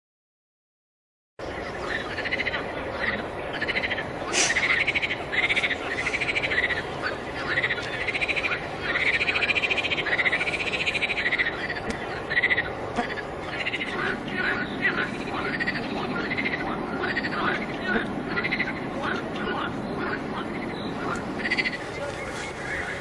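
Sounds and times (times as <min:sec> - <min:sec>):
frogs calling: 0:01.5 - 0:23.0.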